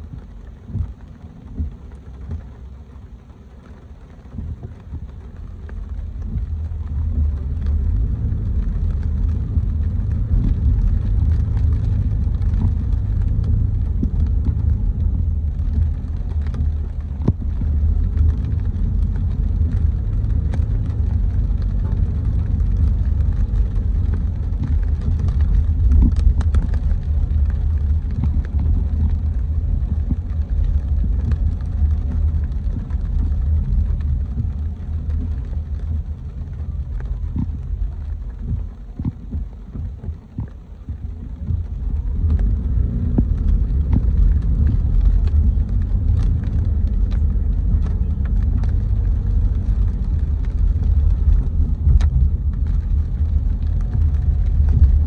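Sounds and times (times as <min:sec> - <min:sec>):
car driving on wet streets: 0:00.0 - 0:55.0.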